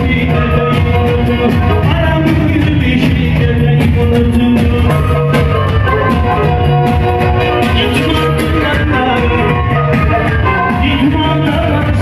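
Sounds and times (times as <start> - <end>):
bass and drum beat: 0.0 - 12.0.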